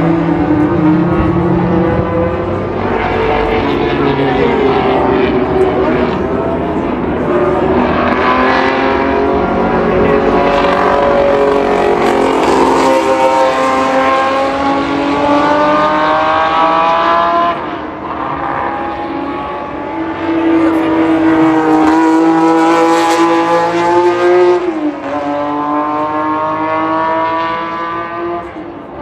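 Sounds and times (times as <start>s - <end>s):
racing car engines accelerating: 0.0s - 29.0s.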